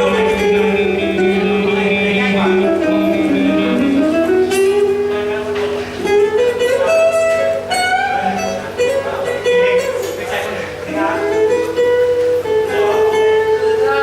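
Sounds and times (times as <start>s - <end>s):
live band with guitar: 0.0s - 14.0s.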